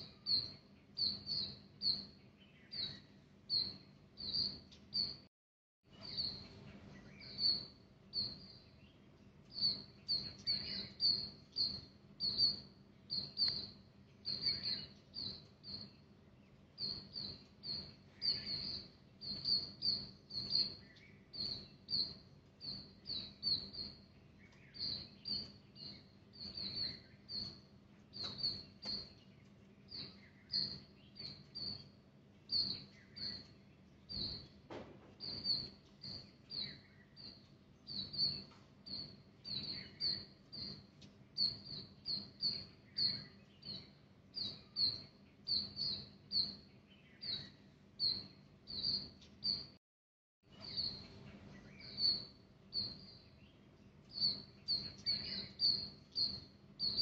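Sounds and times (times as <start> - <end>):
small birds chirping: 0.0 - 49.8, 50.4 - 57.0.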